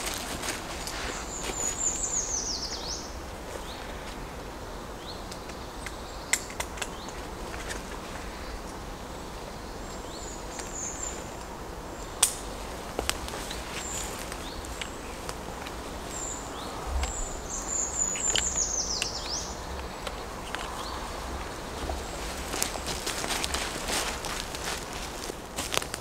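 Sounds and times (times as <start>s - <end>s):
outdoor hush: 0.0s - 26.0s
small birds chirping: 0.0s - 26.0s.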